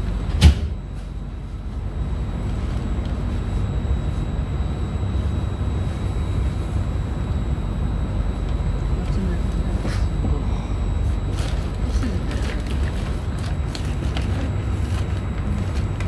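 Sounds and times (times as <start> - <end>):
low rumble and hum inside train: 0.0 - 16.0.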